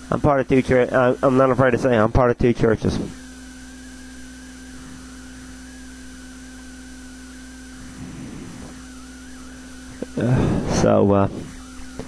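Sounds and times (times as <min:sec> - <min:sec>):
electrical hum: 0:00.0 - 0:12.0
wavering high whine: 0:00.0 - 0:12.0.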